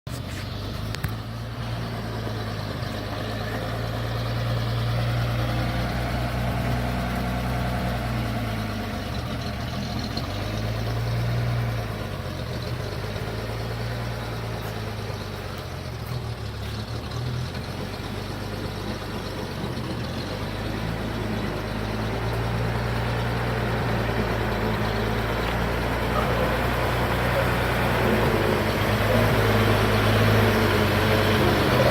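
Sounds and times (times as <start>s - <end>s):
truck engine running low: 0.1s - 31.9s.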